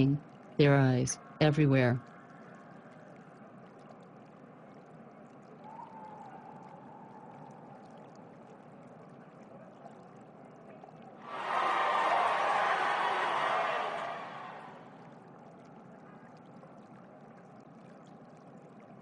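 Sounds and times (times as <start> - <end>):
faint running water: 0.0 - 19.0.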